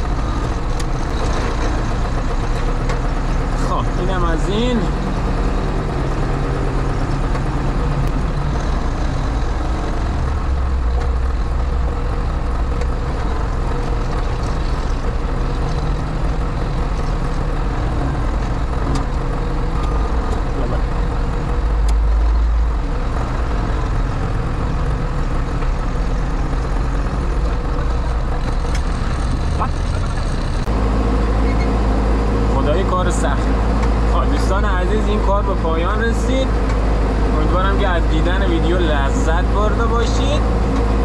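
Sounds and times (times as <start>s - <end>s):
diesel engine running from cab: 0.0s - 41.0s.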